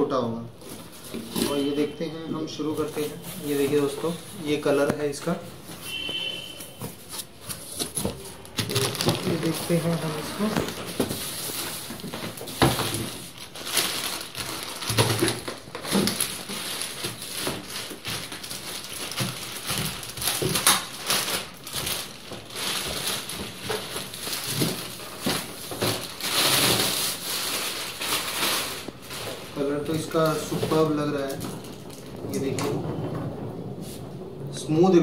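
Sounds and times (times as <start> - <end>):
plastic bag crinkling: 0.5 - 34.3.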